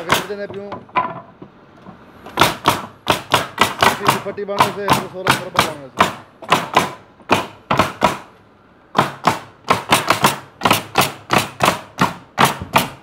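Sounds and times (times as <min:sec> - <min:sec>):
nail gun firing: 0:00.0 - 0:00.4, 0:02.4 - 0:08.3, 0:08.9 - 0:13.0.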